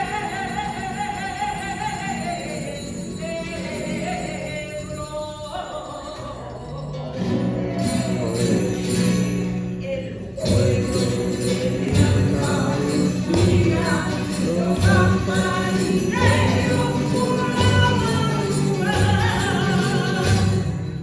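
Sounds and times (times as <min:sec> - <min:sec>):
hand bells shaken in rhythm: 0:00.0 - 0:21.0
people singing: 0:00.0 - 0:21.0.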